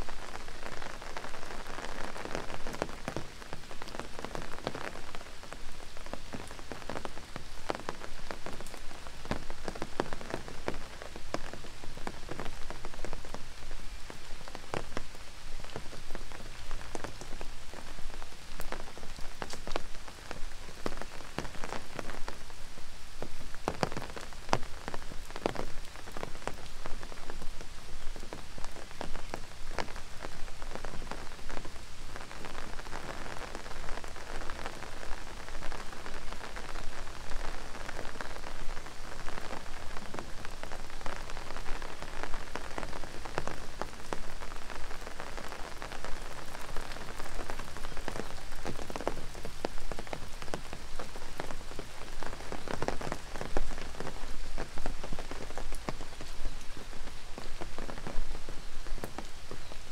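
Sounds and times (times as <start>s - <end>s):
large raindrops striking close: 0.0s - 59.9s
steady rain hiss: 0.0s - 59.9s.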